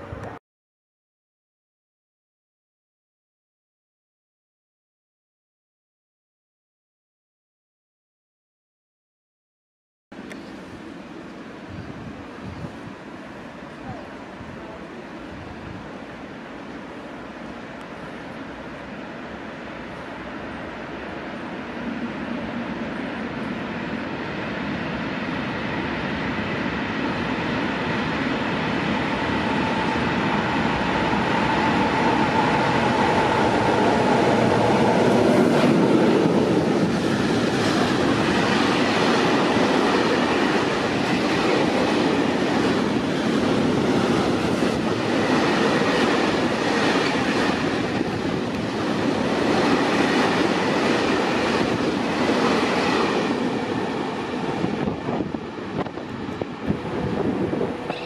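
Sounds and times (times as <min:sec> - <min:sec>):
freight train rolling rumble: 0:10.2 - 0:58.0.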